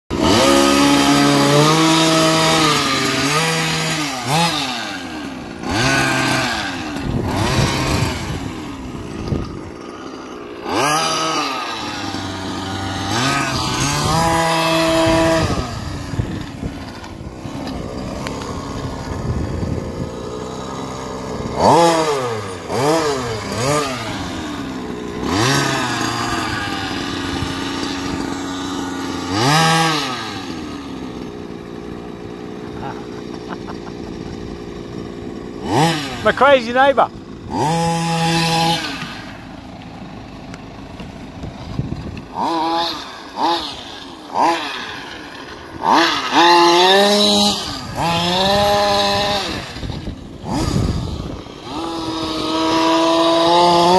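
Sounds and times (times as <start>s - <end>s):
small two-stroke engine revving: 0.1s - 53.9s.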